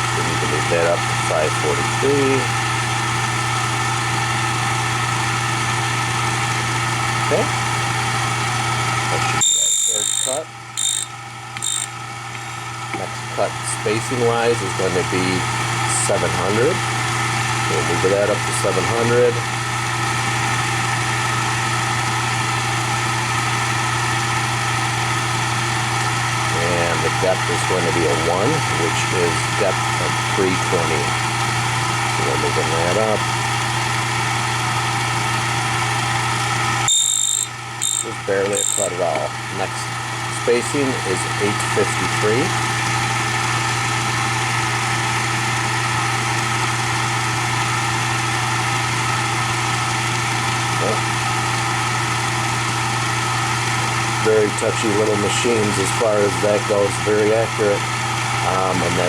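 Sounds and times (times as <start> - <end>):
key cutting machine motor humming: 0.0 - 26.5, 28.7 - 59.0.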